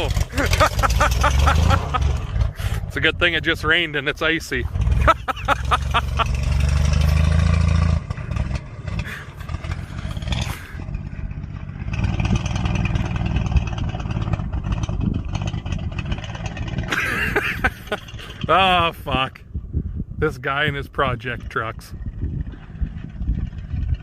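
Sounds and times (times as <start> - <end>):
rattling and clatter: 0.0 - 3.7, 4.6 - 18.6, 21.2 - 24.0
truck engine revving: 0.0 - 19.0, 21.4 - 24.0.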